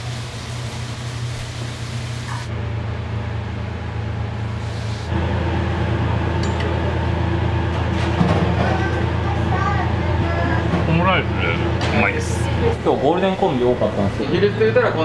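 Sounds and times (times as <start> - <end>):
kitchen machinery humming: 0.0 - 15.0.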